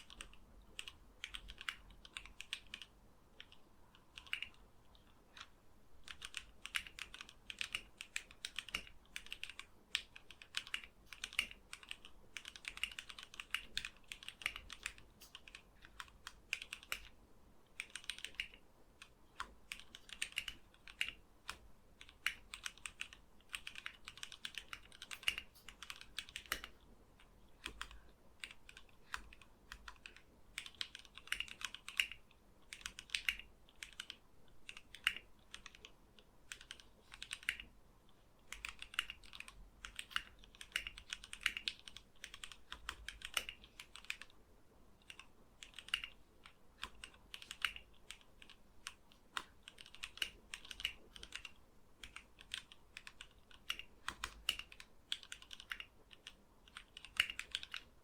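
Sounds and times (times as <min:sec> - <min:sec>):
typing on mechanical keyboard: 0:00.0 - 0:44.4, 0:45.0 - 0:58.0.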